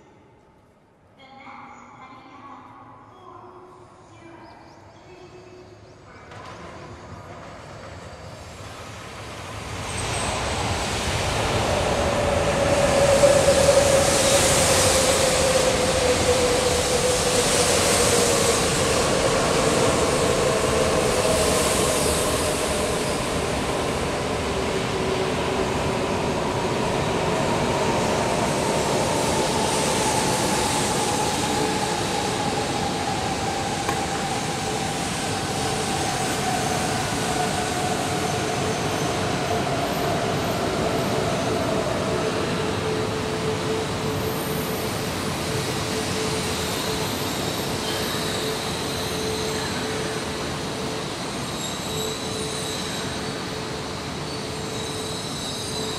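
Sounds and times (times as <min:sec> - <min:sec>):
train running noise: 0:06.2 - 0:55.9.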